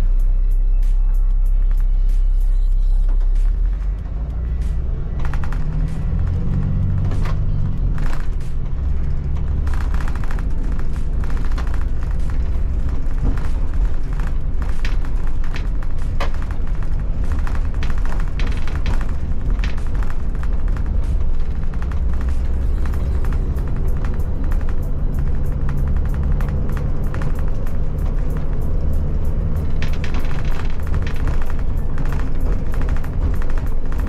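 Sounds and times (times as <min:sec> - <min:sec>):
bus engine and road rumble: 0:00.0 - 0:34.0
interior rattles and knocks: 0:05.2 - 0:34.0.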